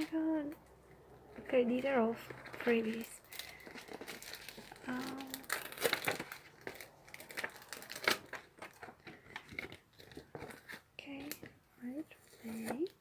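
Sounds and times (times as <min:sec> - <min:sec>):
packaging crinkling: 0:02.2 - 0:13.0.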